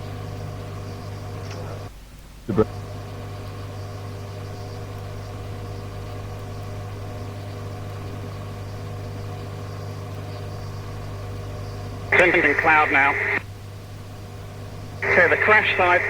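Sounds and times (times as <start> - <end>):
radio hum with hiss: 0.0 - 16.0.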